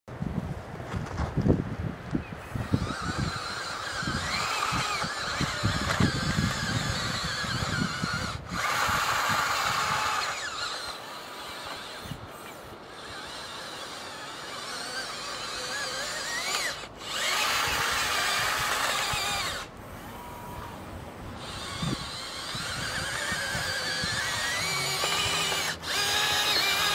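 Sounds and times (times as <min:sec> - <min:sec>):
electric motors whining: 0:02.4 - 0:26.9.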